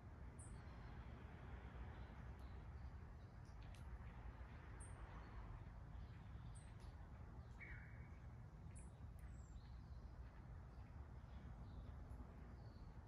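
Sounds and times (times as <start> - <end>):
songbirds chirping: 1.8 - 13.0.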